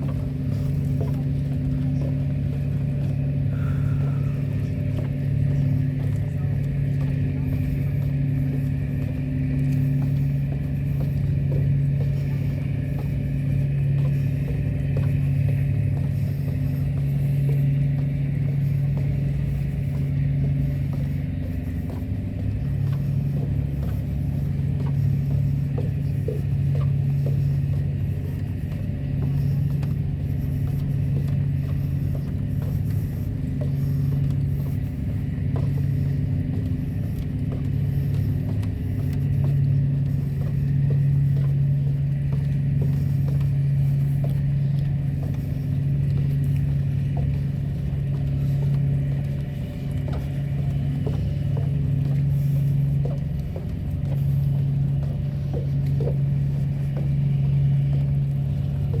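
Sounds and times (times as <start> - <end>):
low mechanical drone: 0.0 - 59.0.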